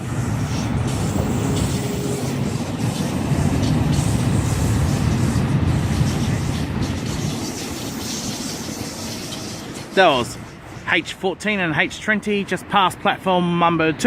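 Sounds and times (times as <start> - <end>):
train passing with wheel rumble: 0.0 - 14.0.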